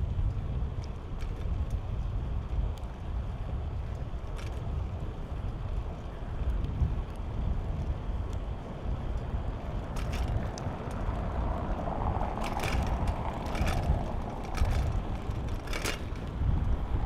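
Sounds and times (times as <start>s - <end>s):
bicycle clicks and rattles: 0.0s - 17.0s
wind rumble on microphone: 0.0s - 17.0s.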